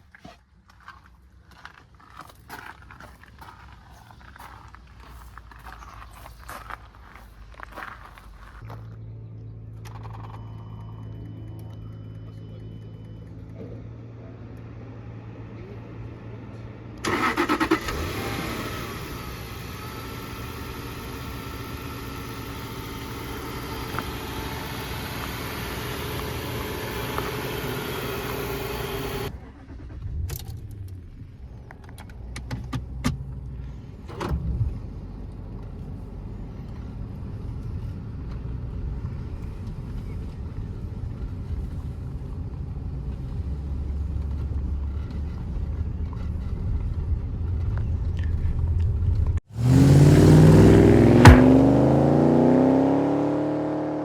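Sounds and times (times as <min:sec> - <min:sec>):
low steady rumble: 0:00.7 - 0:49.8
car engine starting and idling: 0:00.9 - 0:54.0.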